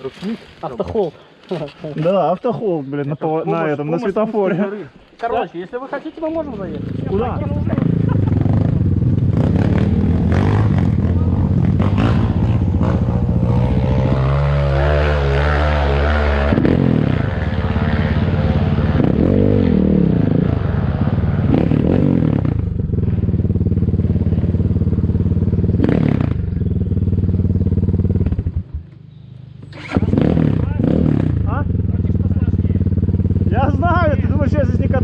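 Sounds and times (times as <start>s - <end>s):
motorcycle engine revving: 6.5s - 35.0s.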